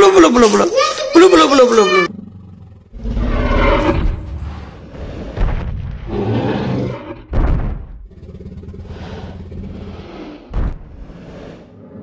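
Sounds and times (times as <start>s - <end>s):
deep rumbling dinosaur roars: 2.1s - 12.0s.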